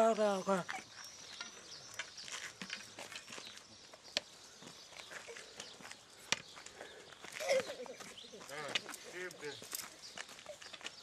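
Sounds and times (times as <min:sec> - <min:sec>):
footsteps on pavement: 0:00.0 - 0:11.0
walking stick taps: 0:00.7 - 0:11.0.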